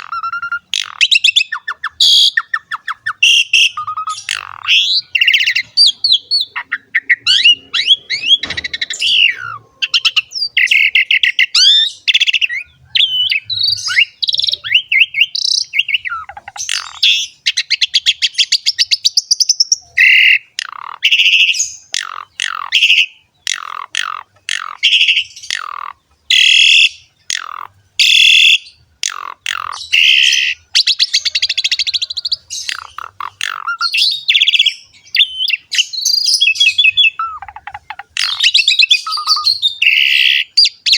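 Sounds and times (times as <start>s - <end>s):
harsh raspy bird notes: 0.0s - 40.9s
starling singing: 0.0s - 40.9s.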